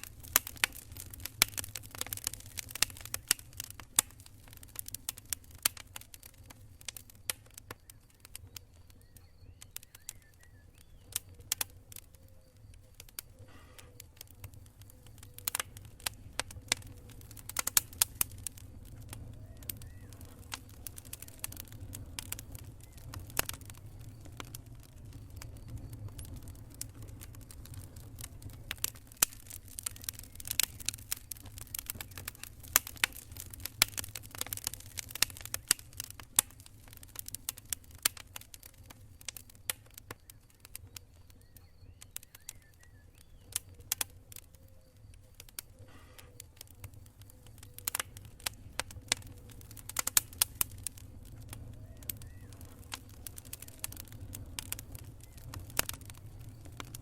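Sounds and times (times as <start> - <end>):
campfire crackling: 0.0 - 57.0
low rumble of flames: 0.0 - 57.0.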